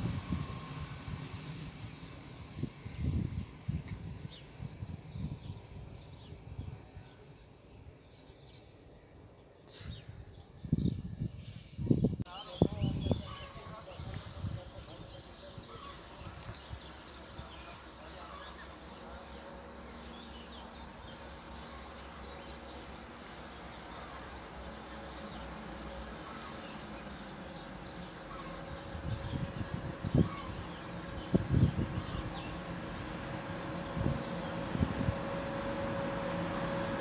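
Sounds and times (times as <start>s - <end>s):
distant train hum and whine: 0.0s - 11.2s, 12.4s - 37.0s.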